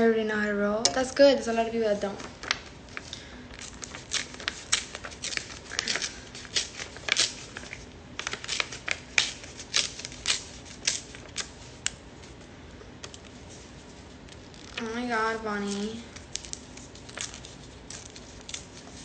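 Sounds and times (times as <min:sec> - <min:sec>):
paper crinkling and crackling: 0:01.9 - 0:19.0.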